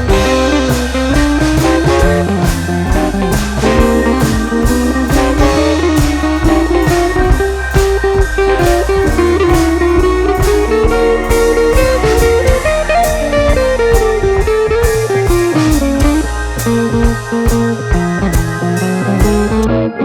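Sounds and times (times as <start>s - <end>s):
drum kit beat: 0.0s - 19.8s
electric guitar lead: 0.0s - 20.0s.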